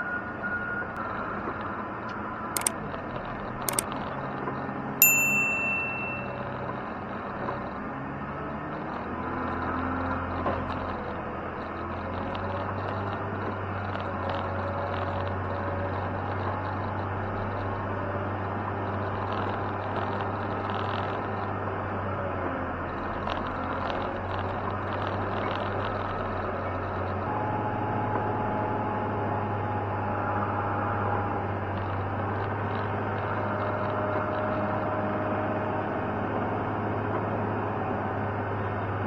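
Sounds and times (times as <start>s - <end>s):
snowplow engine humming: 3.1s - 39.0s.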